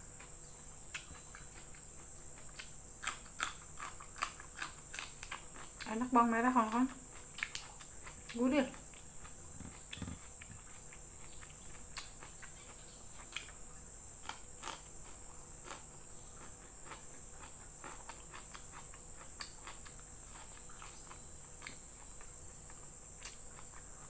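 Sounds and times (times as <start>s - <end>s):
chewing sounds: 0.2s - 24.0s.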